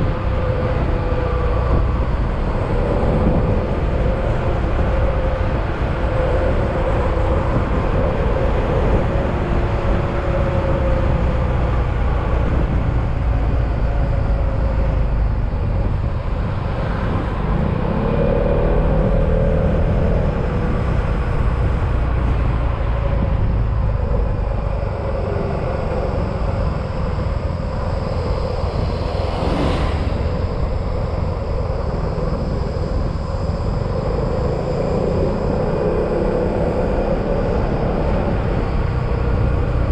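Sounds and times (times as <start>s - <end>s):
road rumble: 0.0s - 39.9s
wind noise: 0.0s - 39.9s.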